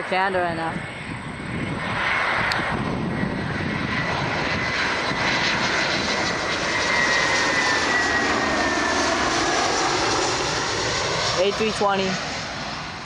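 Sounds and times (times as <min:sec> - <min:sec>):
jet airliner engines passing: 0:00.0 - 0:13.0.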